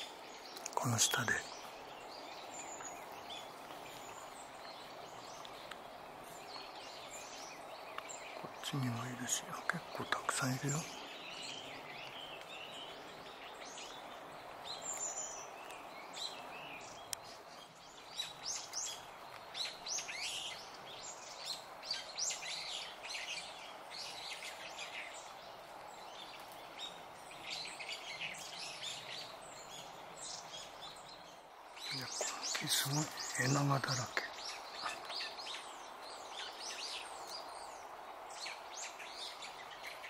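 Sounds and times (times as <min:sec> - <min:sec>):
birds chirping: 0:00.0 - 0:40.0
steady background hiss: 0:00.0 - 0:40.0.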